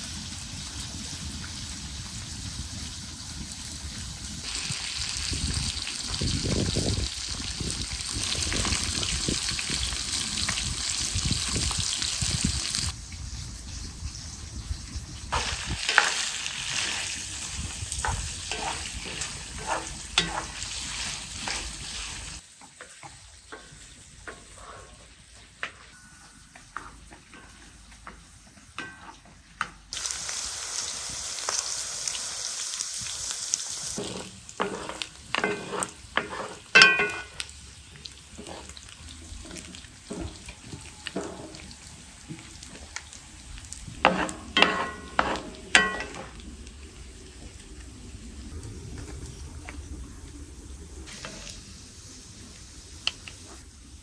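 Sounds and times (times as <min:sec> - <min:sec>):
potatoes sizzling in hot oil: 0:00.0 - 0:25.2, 0:26.9 - 0:54.0.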